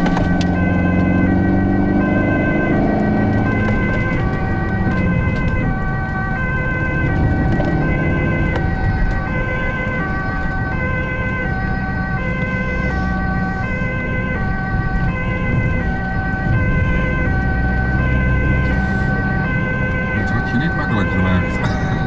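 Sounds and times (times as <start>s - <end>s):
two-tone ambulance siren: 0.0s - 22.0s
vehicle engine and road rumble: 0.0s - 22.0s.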